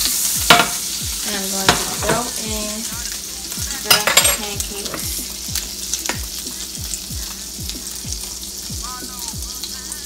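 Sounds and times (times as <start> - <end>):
butter sizzling in a pan: 0.0 - 10.0.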